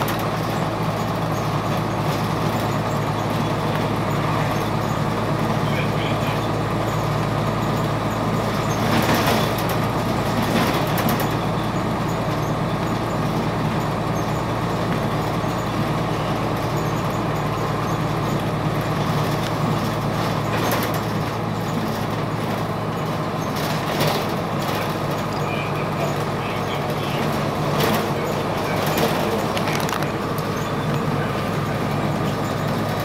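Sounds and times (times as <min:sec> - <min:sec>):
diesel bus engine droning: 0:00.0 - 0:33.0.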